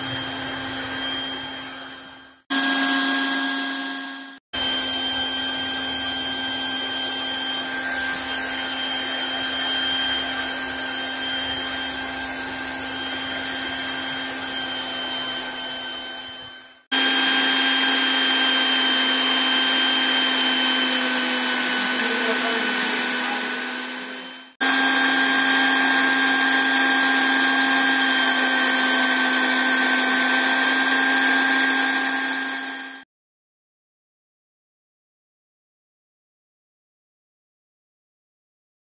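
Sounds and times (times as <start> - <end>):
hot-air welding machine whirring: 0.0 - 33.0.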